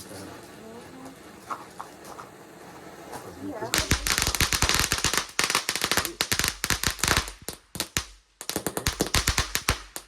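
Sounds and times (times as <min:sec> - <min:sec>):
firecrackers cracking: 0:00.0 - 0:10.0.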